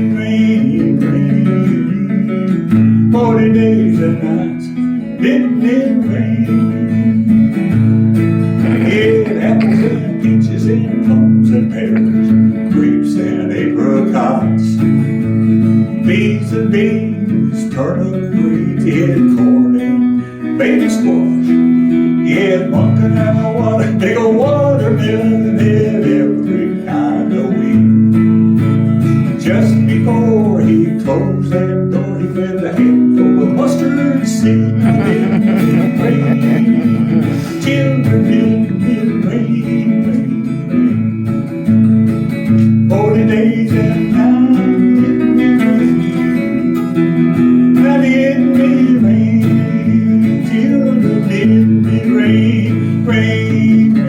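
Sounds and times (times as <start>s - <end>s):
blues band with guitar: 0.0s - 54.0s.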